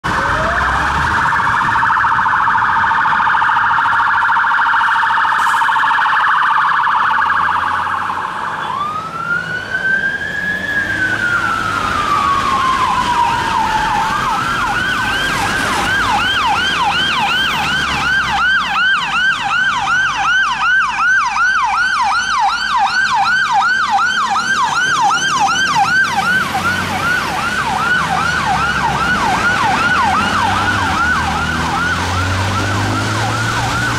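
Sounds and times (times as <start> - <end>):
fire engine siren: 0.0 - 33.9.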